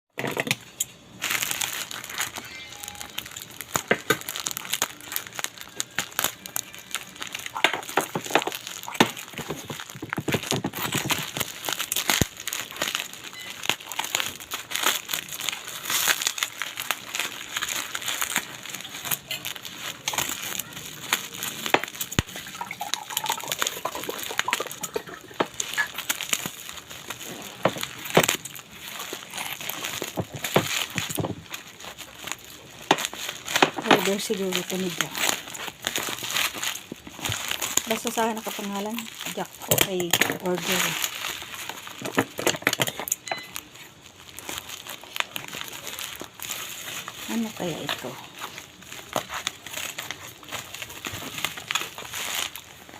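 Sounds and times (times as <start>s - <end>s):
plastic packaging crinkling: 0.2s - 52.9s.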